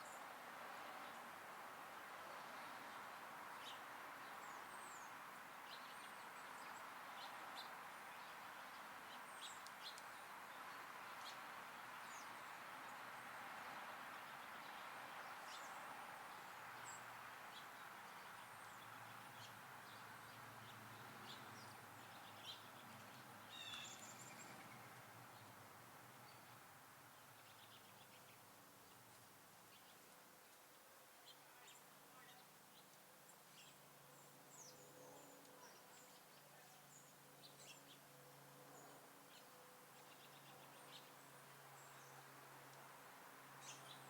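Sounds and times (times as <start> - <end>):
outdoor background hiss: 0.0 - 44.0
songbirds chirping: 0.0 - 44.0.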